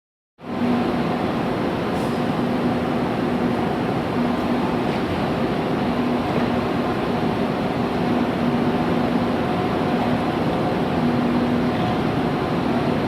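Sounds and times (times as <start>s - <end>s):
trains humming at platform: 0.4s - 13.0s.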